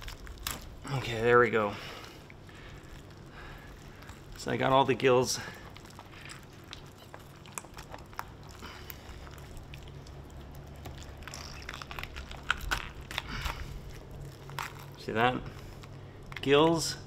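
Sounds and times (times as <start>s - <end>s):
wet squelching of fish flesh: 0.0s - 16.6s
faint low hum: 0.0s - 17.0s.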